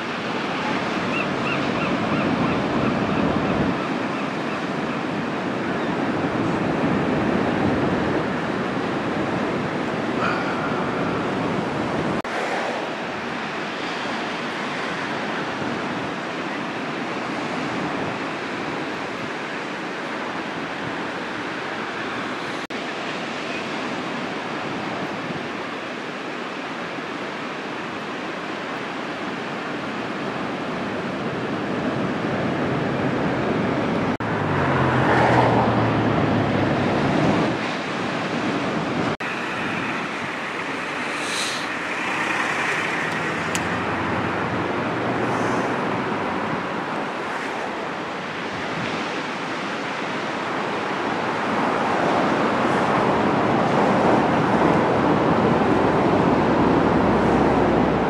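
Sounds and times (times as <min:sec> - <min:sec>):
wind on microphone: 0:00.0 - 0:25.8, 0:29.4 - 0:58.0
ocean surf breaking: 0:00.0 - 0:58.0.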